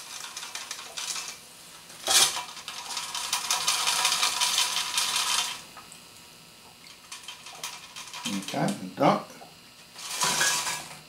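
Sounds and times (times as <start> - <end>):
potatoes crackling in fryer: 0.0 - 8.9, 9.7 - 11.0.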